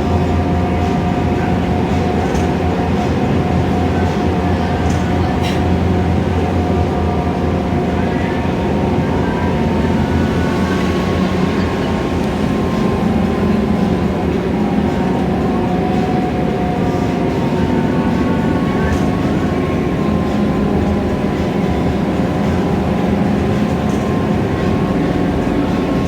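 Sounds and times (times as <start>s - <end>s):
bus engine drone: 0.0s - 26.0s
road noise: 0.0s - 26.0s.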